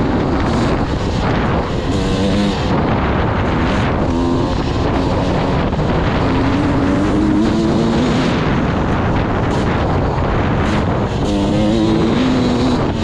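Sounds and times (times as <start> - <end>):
dirt bike engine accelerating: 0.0 - 13.0
wind buffeting microphone: 0.0 - 13.0.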